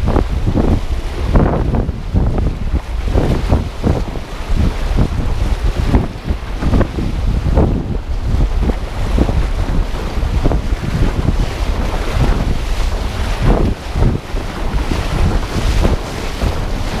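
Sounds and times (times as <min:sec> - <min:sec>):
water rushing and splashing: 0:00.0 - 0:17.0
wind buffeting microphone: 0:00.0 - 0:17.0.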